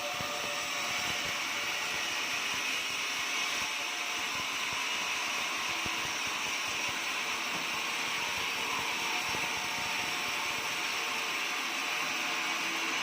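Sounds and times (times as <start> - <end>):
sawmill whirring: 0.0 - 13.0.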